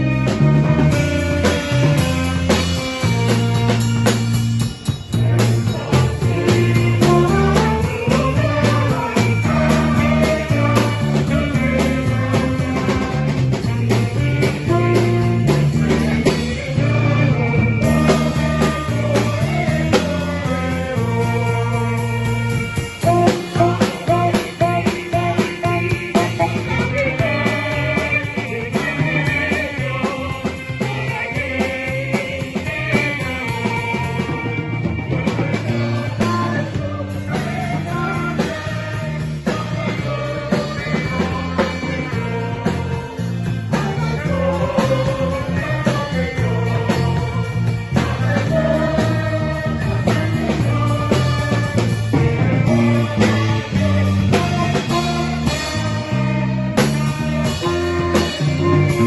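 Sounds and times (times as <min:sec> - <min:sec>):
steady beat: 0:00.0 - 0:21.9, 0:23.0 - 0:59.0
guitar: 0:00.0 - 0:59.0
held bass notes: 0:00.0 - 0:59.0
instrumental band music: 0:00.0 - 0:59.0.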